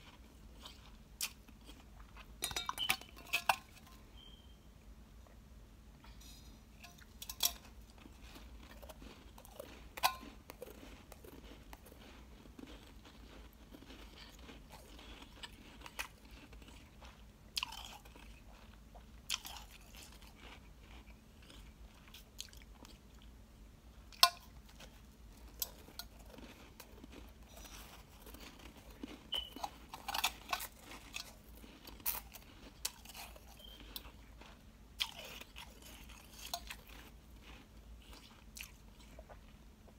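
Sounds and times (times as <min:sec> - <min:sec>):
person chewing: 0:00.0 - 0:04.5, 0:06.1 - 0:23.4, 0:24.1 - 0:39.9.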